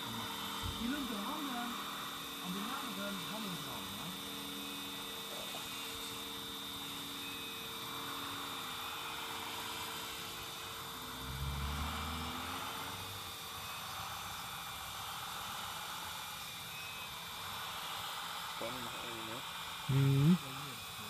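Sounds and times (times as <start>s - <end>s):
toy excavator motors whining: 0.0s - 21.0s.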